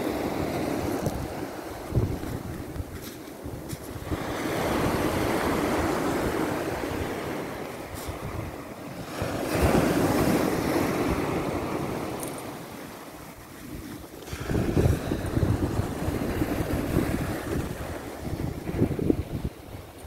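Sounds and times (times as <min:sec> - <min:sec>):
waves breaking on pebbly beach: 0:00.0 - 0:20.0
wind rumbling on microphone: 0:00.0 - 0:20.0.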